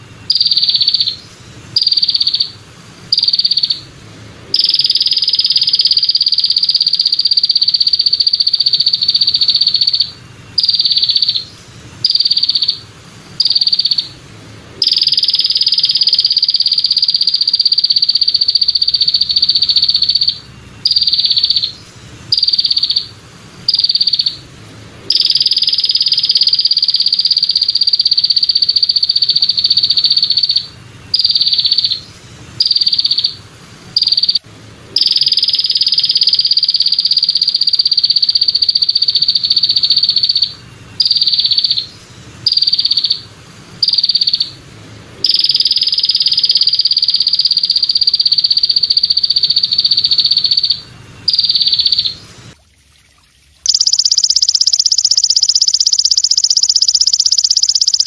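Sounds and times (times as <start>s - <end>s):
katydid buzzing song: 0.0s - 44.6s, 45.2s - 52.3s, 53.7s - 58.0s.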